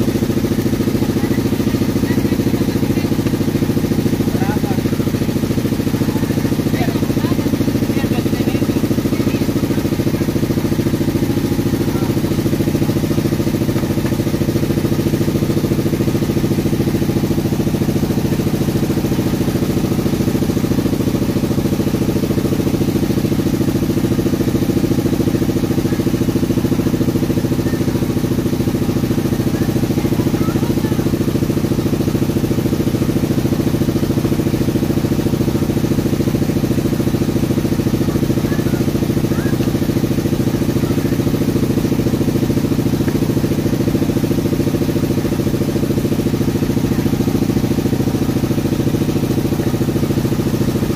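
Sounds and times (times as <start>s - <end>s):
motor running with fast pulse: 0.0s - 50.9s.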